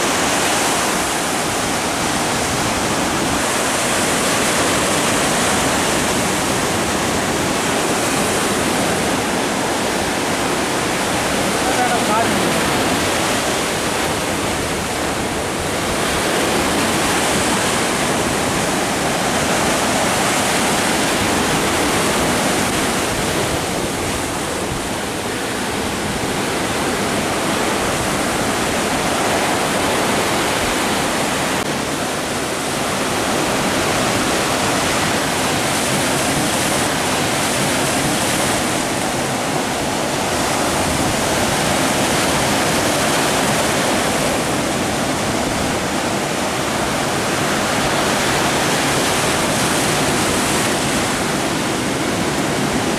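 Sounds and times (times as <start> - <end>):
sea surf breaking over boulders: 0.0 - 52.9.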